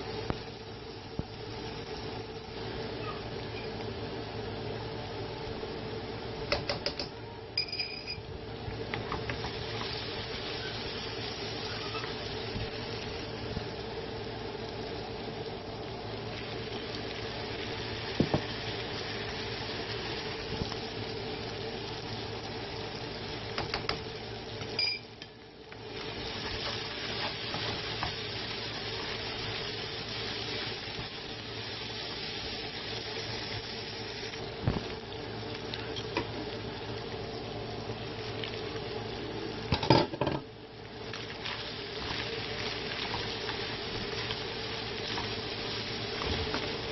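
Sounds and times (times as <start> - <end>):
vegetables sizzling in a pan: 0.0 - 6.5, 8.2 - 46.9.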